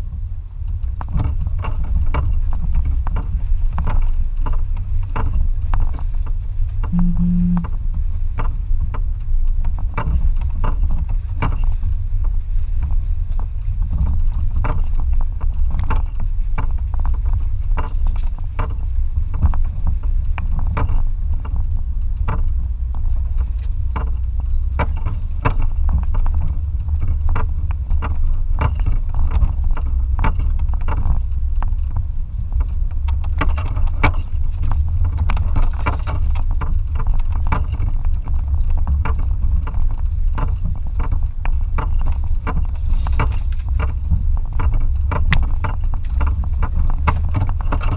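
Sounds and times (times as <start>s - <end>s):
knocks and rattles: 0.7s - 11.8s, 12.8s - 47.9s.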